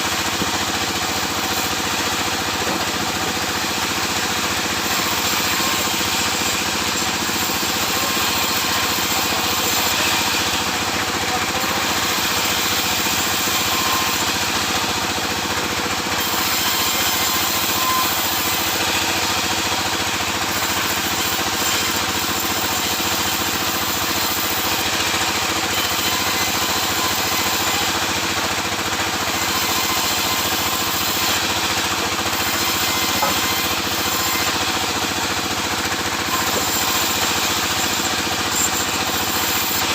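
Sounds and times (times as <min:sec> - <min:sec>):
sawmill saw and engine running: 0:00.0 - 0:39.9.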